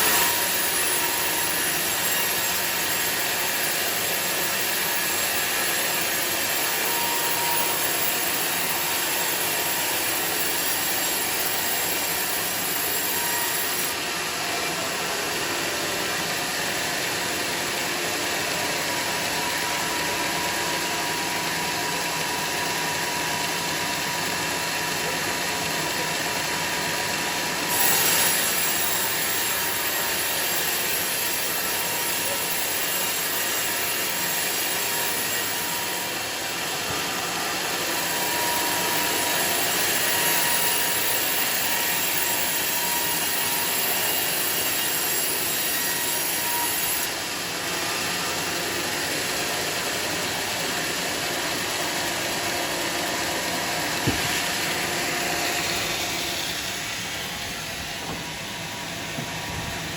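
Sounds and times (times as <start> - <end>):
high hissing saw cut: 0.0 - 59.9
sawmill saw running: 0.0 - 59.9.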